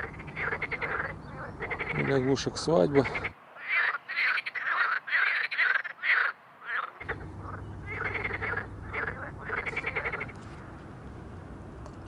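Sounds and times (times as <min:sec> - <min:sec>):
frog rasping croaks: 0:00.0 - 0:02.4, 0:03.0 - 0:10.4
chorus of frogs: 0:00.0 - 0:10.5.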